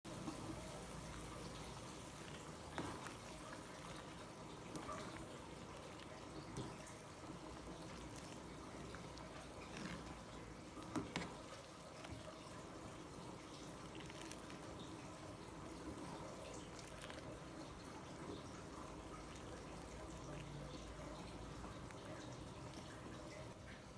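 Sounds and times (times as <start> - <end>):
faint running water: 0.0 - 23.9.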